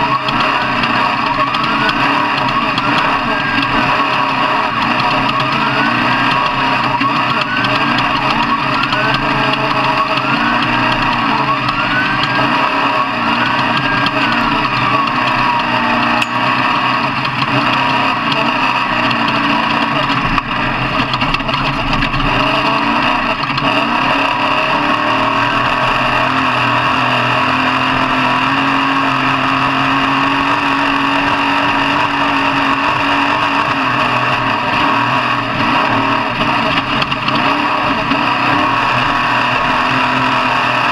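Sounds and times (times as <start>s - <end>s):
din of running engines: 0.0s - 40.9s
engine revving: 0.0s - 40.9s.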